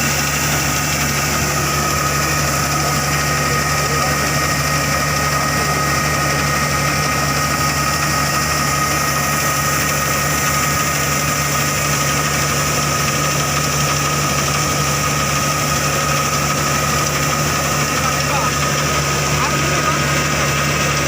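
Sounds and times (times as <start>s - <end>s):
combine harvester diesel engine running: 0.0s - 21.0s.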